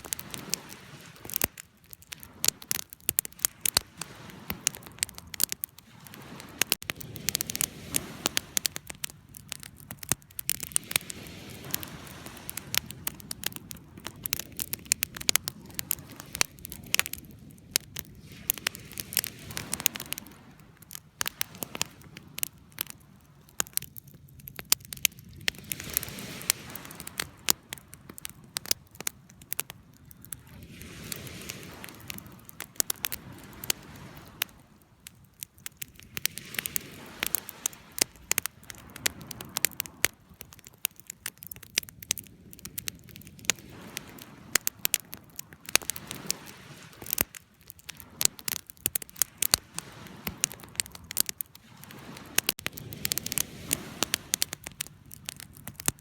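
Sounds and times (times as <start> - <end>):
fire snapping and popping: 0.0 - 56.0
soft low rumble of burning: 0.0 - 56.0
wood fire crackling: 0.0 - 56.0.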